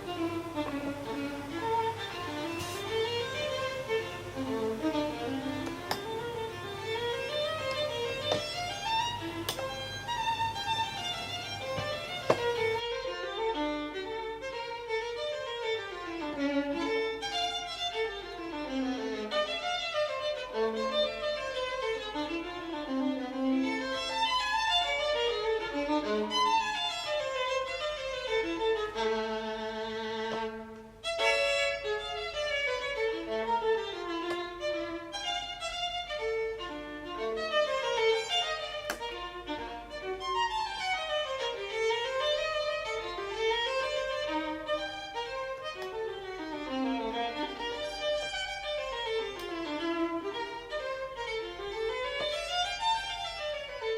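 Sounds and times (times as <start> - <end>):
violin music: 0.0 - 53.9.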